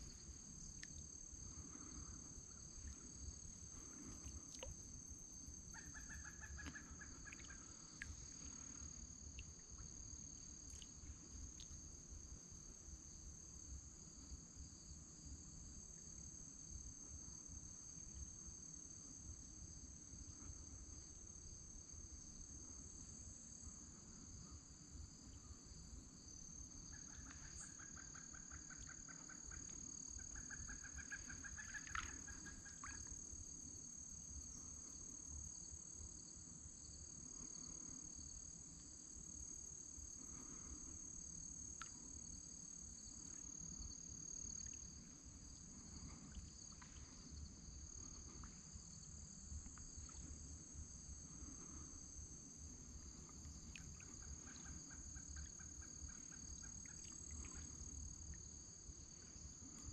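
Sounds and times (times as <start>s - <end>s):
insects trilling: 0.0s - 15.4s, 20.0s - 59.9s.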